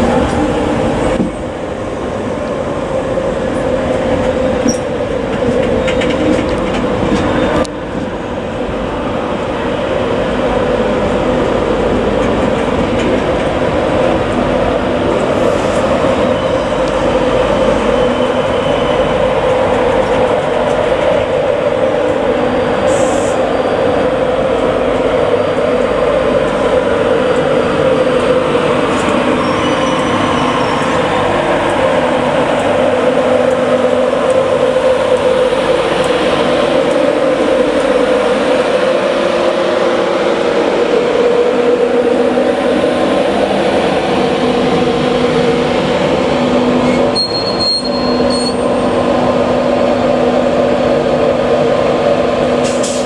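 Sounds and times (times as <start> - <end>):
electric train hum: 0.0 - 53.0
train running noise: 0.0 - 53.0.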